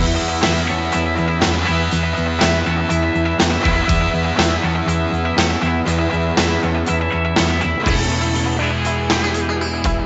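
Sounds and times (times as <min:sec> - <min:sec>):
drum hits: 0:00.0 - 0:08.6
bass line: 0:00.0 - 0:10.0
guitar: 0:00.0 - 0:10.0.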